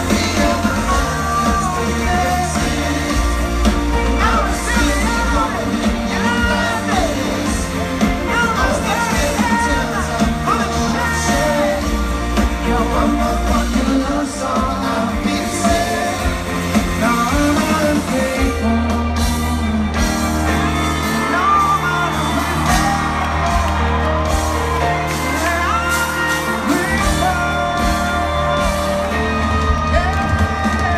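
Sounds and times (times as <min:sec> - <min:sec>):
crowd shouting and whooping: 0:00.0 - 0:30.9
heavy bass: 0:00.0 - 0:30.9
live pop-rock band playing: 0:00.0 - 0:30.9
person singing: 0:00.0 - 0:30.9.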